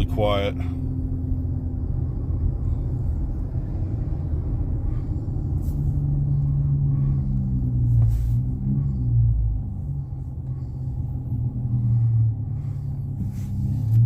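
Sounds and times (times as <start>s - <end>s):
car exhaust rumble: 0.0s - 14.0s
engine drone: 0.0s - 14.0s
road noise: 0.0s - 14.0s.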